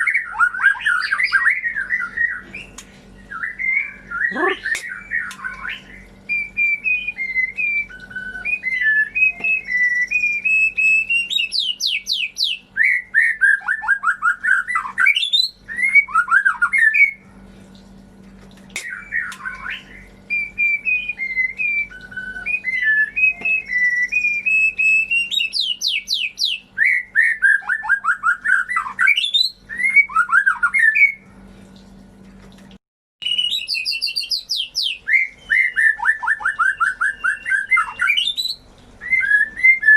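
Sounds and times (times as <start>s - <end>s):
bird song whistles and trills: 0.0s - 17.2s, 18.7s - 31.2s, 33.2s - 39.9s
faint steady hum: 0.0s - 39.9s.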